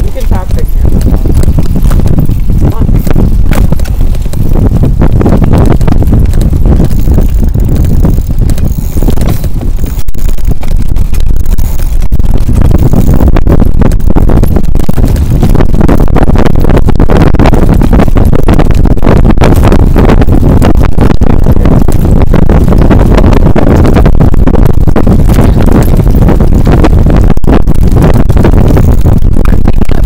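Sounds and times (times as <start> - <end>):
trailer road rumble: 0.0 - 30.0.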